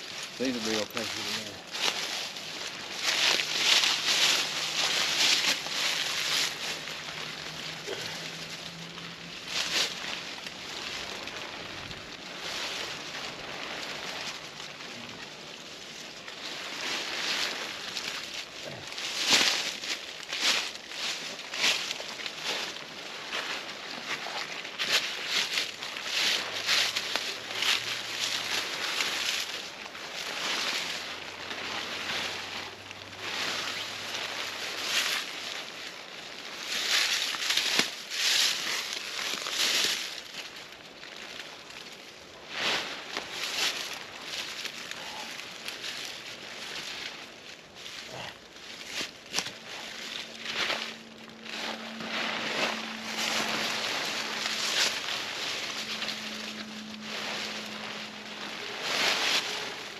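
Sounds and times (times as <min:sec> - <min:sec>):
rustling in dry leaves and tarp: 0:00.0 - 0:59.9
steady outdoor hiss: 0:00.0 - 0:59.9.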